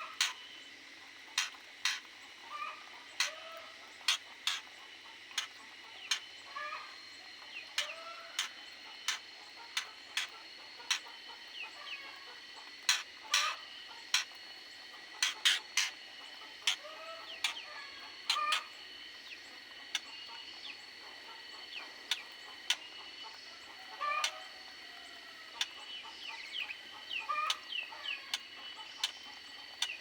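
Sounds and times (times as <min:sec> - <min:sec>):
birds chirping: 0:00.0 - 0:30.0
low clucking bird calls: 0:00.0 - 0:30.0.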